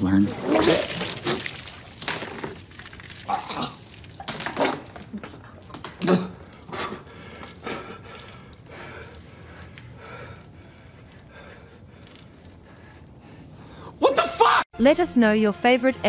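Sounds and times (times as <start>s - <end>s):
man vomiting and retching: 0.1s - 13.2s.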